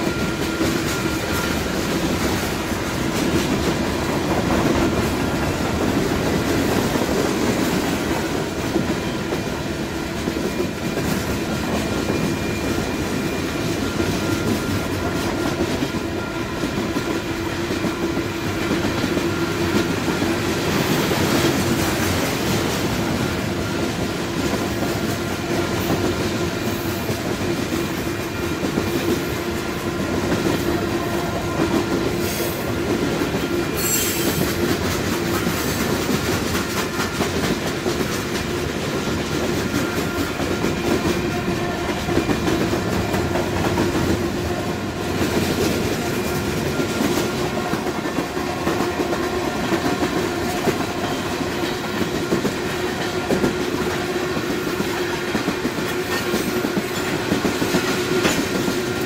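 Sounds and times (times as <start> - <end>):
freight train wheels rumbling: 0.0 - 59.0
wheels clickety-clack on rail joints: 0.0 - 59.0.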